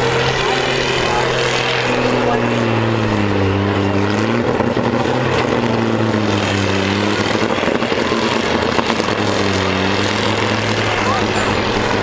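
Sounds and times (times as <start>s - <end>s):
combine harvester engines revving: 0.0s - 12.0s.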